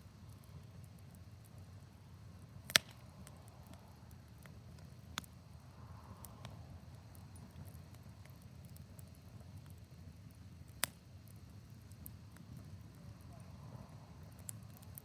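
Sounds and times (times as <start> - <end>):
faint low rumble: 0.0 - 15.0
wood fire crackling: 0.0 - 15.0
fire popping: 0.1 - 15.0.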